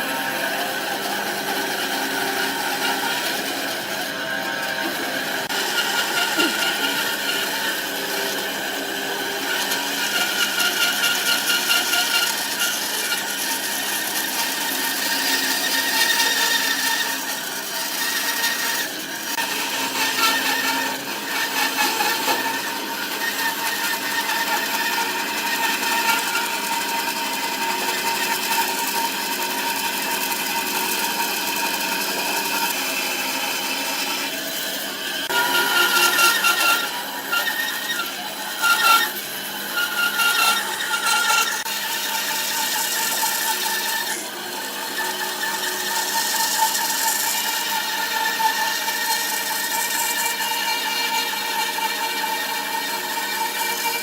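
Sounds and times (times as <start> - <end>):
wood lathe cutting wood: 0.0 - 54.0.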